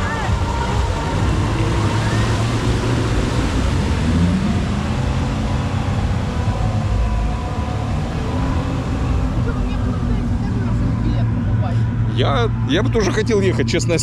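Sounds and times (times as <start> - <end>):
rush of noise: 0.0 - 14.0
speedboat engines rumbling: 0.0 - 14.0.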